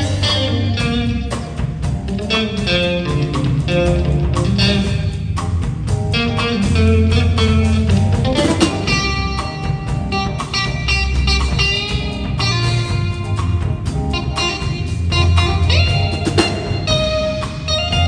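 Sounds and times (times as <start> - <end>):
bass and drums: 0.0 - 18.0
jazz electric guitar: 0.0 - 18.0.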